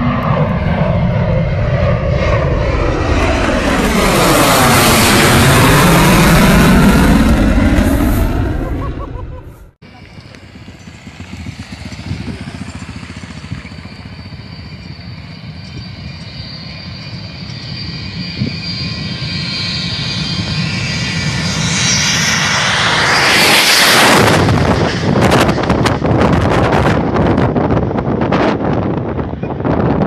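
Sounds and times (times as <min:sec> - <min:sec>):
jet airliner roaring overhead: 0:00.0 - 0:30.0.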